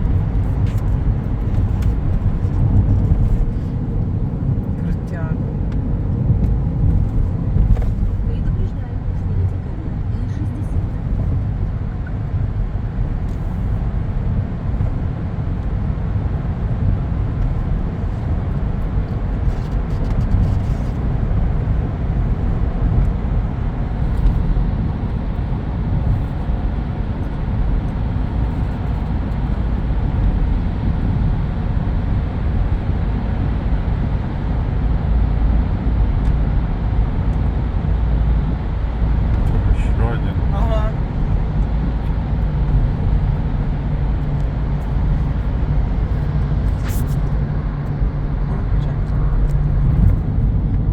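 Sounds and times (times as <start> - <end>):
car road rumble: 0.0 - 50.9.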